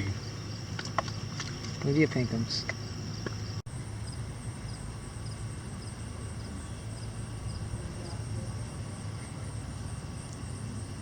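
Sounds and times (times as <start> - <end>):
cricket chirping: 0.0 - 11.0
steady low rumble: 0.0 - 11.0.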